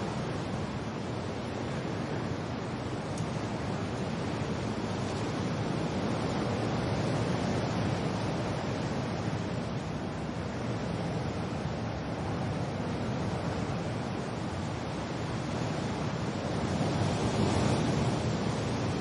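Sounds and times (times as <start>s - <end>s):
wind and rain rushing: 0.0s - 19.0s.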